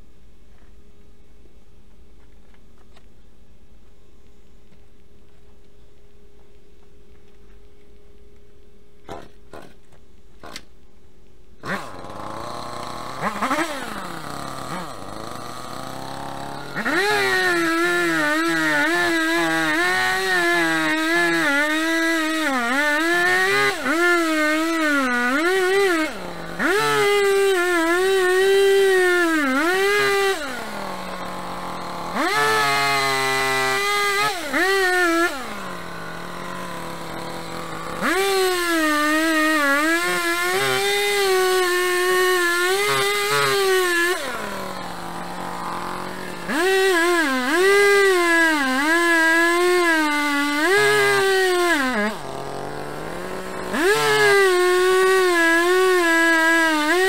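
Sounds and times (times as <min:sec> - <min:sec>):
chainsaw revving and idling: 0:09.0 - 0:10.8, 0:11.5 - 0:57.0.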